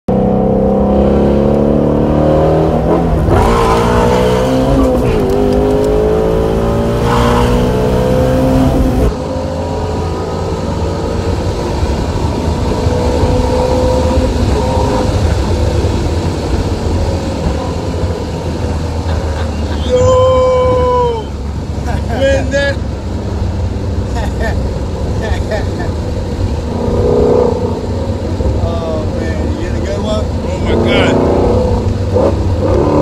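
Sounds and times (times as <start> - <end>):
car engine accelerating hard: 0.1 - 33.0.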